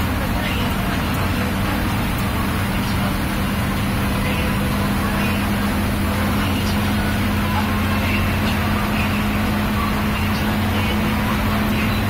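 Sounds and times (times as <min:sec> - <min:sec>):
bus engine hum: 0:00.0 - 0:12.0
road and tyre noise: 0:00.0 - 0:12.0.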